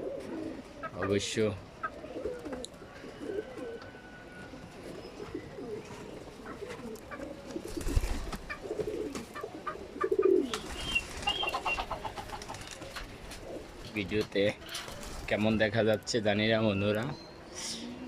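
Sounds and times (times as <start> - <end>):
pigeons cooing: 0.0 - 16.1, 17.4 - 18.0.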